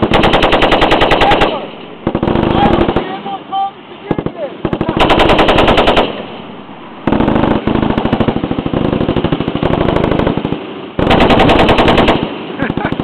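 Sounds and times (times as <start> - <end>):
machine gun automatic bursts: 0.0 - 3.3, 4.2 - 13.0.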